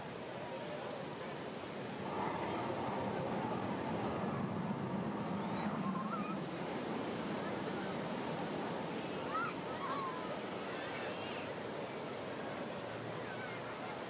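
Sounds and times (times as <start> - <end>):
ocean surf breaking: 1.4 - 14.0.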